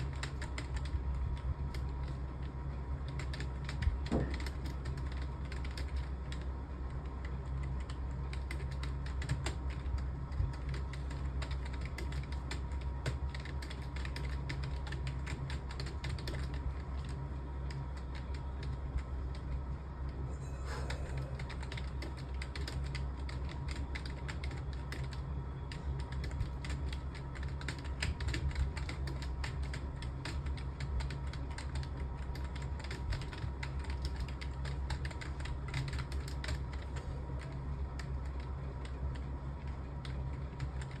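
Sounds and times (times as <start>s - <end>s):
keyboard typing: 0.0s - 41.0s
steady low hum: 0.0s - 41.0s.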